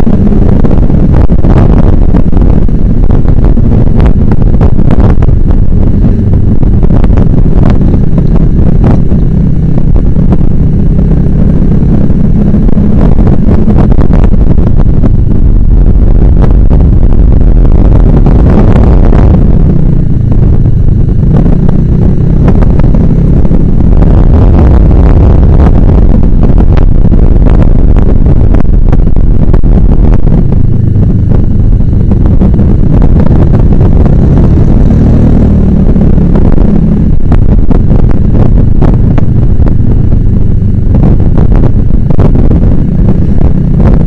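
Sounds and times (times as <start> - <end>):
road noise: 0.0 - 44.0
wind buffeting microphone: 0.0 - 44.0.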